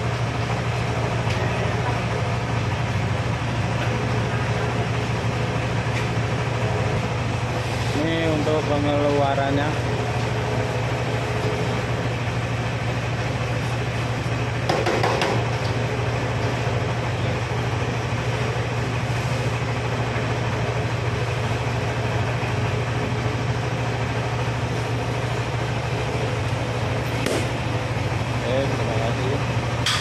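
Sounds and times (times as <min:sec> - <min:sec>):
feed mixer humming: 0:00.0 - 0:30.0.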